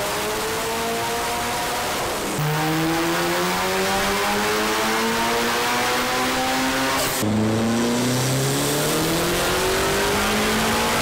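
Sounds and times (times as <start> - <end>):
car engines revving on dyno: 0.0 - 11.0.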